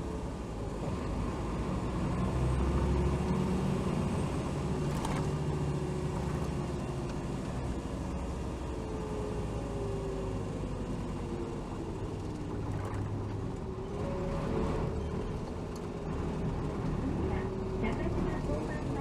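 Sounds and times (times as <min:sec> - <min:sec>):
bus engine drone with whine: 0:00.0 - 0:19.0.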